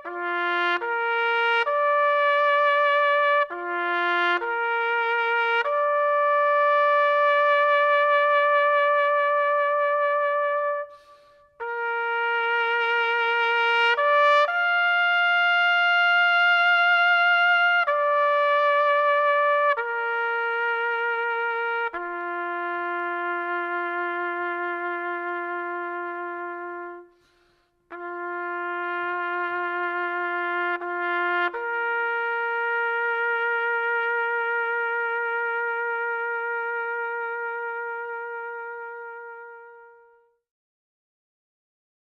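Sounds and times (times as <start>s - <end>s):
long brass-like notes: 0.0s - 40.4s.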